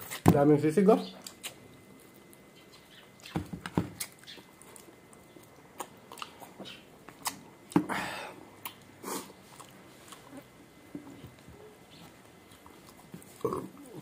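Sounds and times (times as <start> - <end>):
chewing crispy food: 1.2 - 3.4, 4.0 - 7.8, 8.5 - 14.0.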